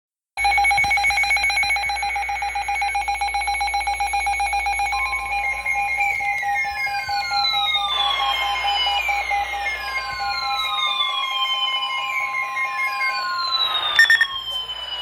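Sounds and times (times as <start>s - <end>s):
pulsing electronic alert tone: 0.4s - 15.0s
siren-like downward gliding tone: 0.5s - 15.0s.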